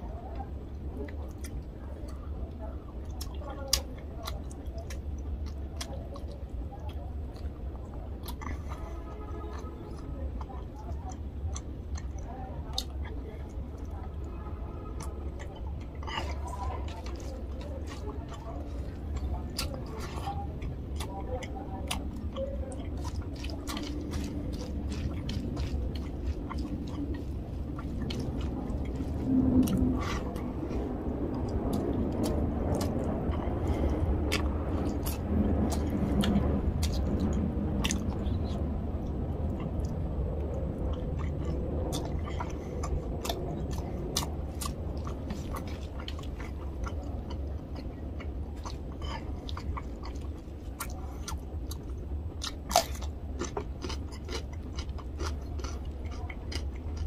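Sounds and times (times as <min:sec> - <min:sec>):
wet chewing of food: 0:00.0 - 0:57.0.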